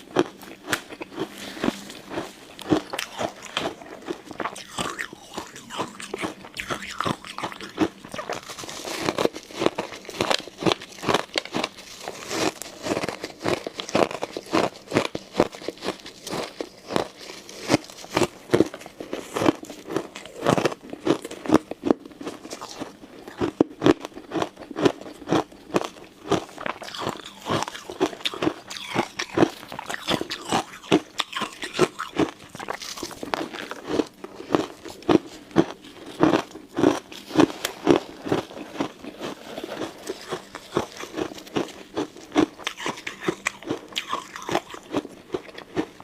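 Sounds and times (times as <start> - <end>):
ice cubes being chewed: 0.0 - 46.0.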